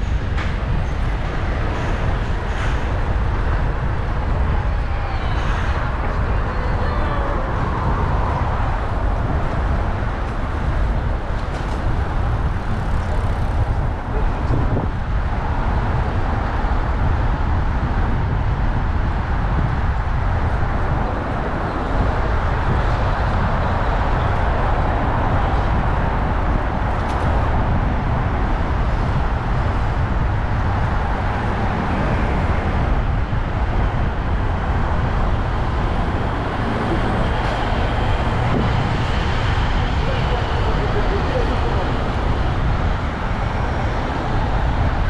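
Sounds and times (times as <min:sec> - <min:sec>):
bicycle rolling noise: 0:00.0 - 0:45.0
road traffic: 0:00.0 - 0:45.0.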